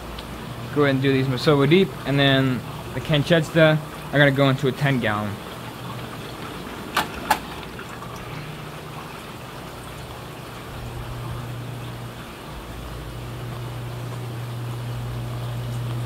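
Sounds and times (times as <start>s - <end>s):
aquarium water running: 0.0s - 16.0s
pumps humming: 0.0s - 16.0s.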